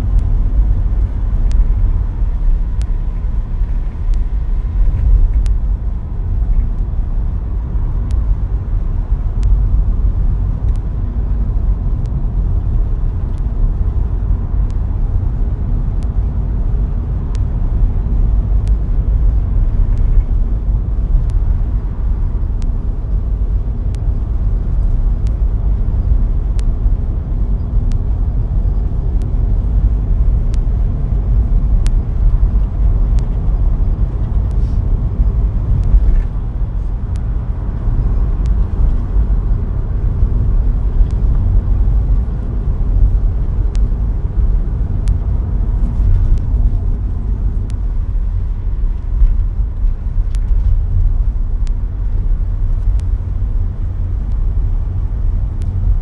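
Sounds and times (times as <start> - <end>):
faint sharp ticks: 0.0 - 3.2, 3.9 - 5.6, 9.2 - 9.8, 11.9 - 15.3, 16.0 - 53.4, 54.0 - 56.0
car engine and tyres rumbling: 0.0 - 56.0.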